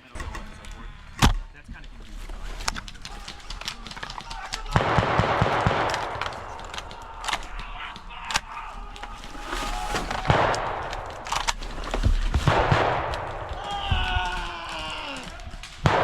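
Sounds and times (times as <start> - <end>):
airsoft guns firing: 0.0 - 16.0.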